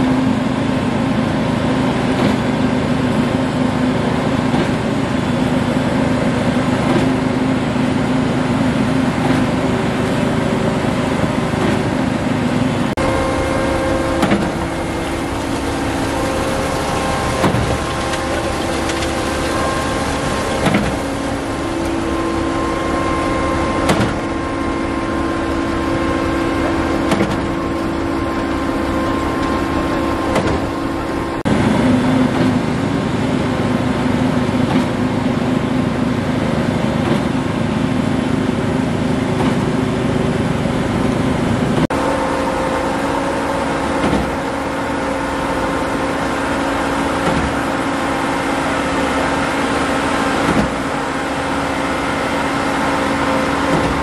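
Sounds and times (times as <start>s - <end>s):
concrete pump engine drone: 0.0s - 54.0s.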